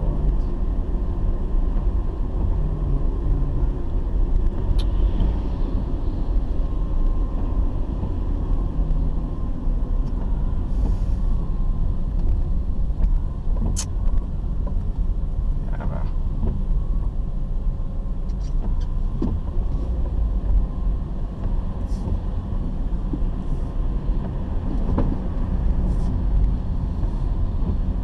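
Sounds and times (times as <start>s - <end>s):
car driving on wet road: 0.0s - 28.0s.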